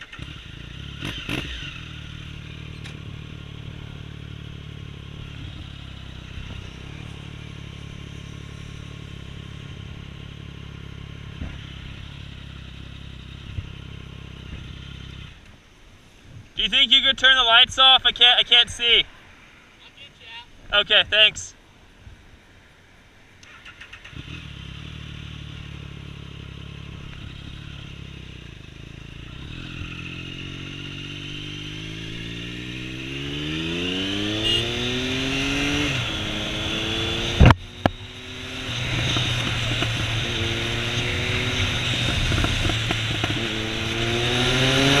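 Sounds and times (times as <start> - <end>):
motorcycle engine revving: 0.0 - 15.5, 23.4 - 45.0.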